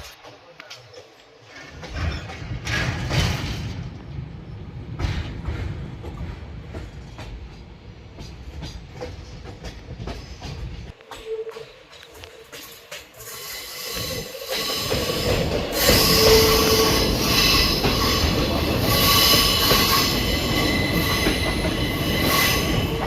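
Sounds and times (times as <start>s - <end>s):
train rumbling: 0.0s - 23.0s
wheels clattering over rail joints: 0.0s - 23.0s.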